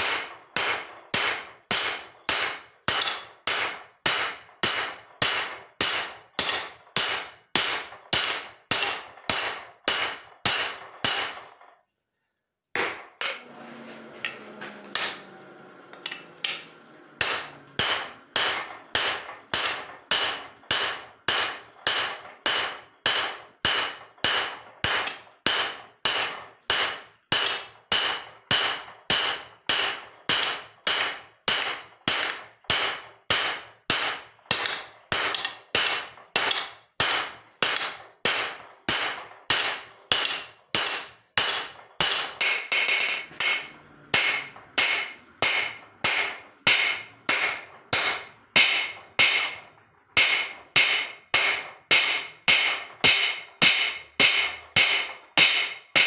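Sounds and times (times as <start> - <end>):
hammer striking steel on anvil: 0.0 - 11.6, 12.8 - 13.5, 14.2 - 15.3, 16.0 - 56.0.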